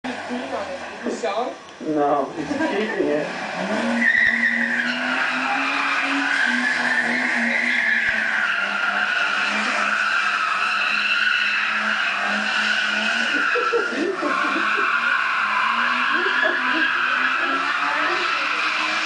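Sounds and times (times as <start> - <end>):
car engine at steady revs: 0.1 - 19.0
tyres squealing on pavement: 2.9 - 19.0.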